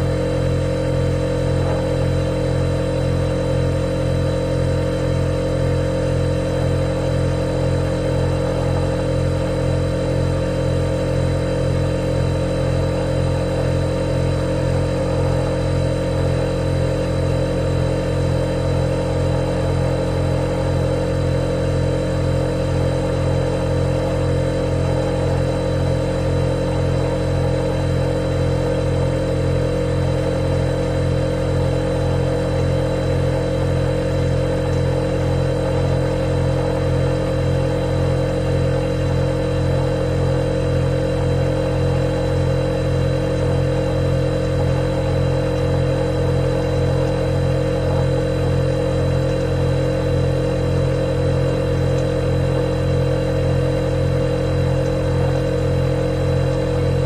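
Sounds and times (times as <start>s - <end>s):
refrigerator compressor humming: 0.0s - 57.0s.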